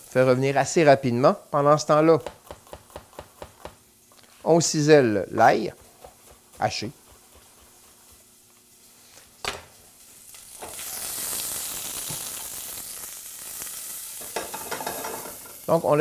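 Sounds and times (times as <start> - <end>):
shallots sizzling in oil: 0.0 - 16.0.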